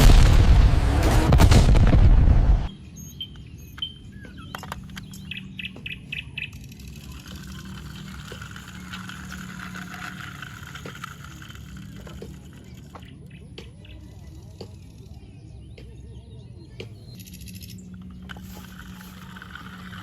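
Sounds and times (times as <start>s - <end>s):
birds chirping: 2.7s - 20.0s.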